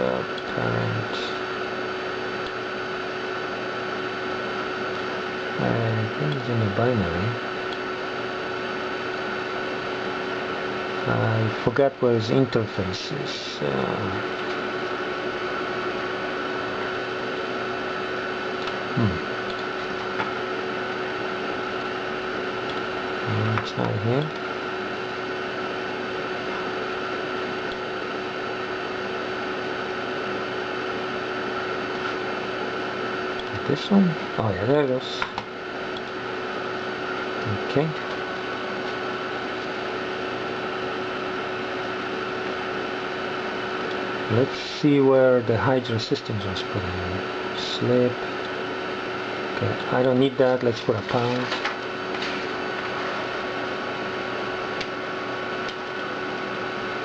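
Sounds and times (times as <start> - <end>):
computer hard drive whirring hum: 0.0 - 57.0
high whine over hiss: 0.0 - 57.0.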